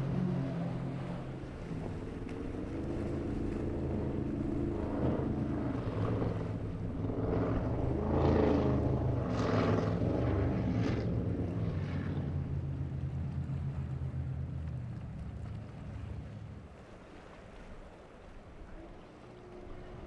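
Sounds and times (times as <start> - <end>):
boat engines running hard: 0.0 - 17.4, 18.0 - 20.0.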